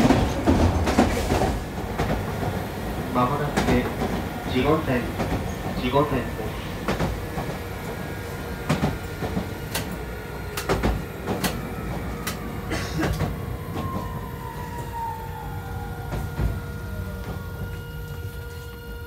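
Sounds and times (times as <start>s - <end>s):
tram rumble: 0.0s - 19.0s.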